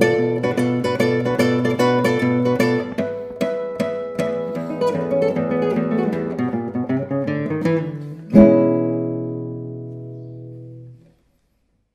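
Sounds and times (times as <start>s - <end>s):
fingerpicked classical guitar: 0.0s - 11.9s.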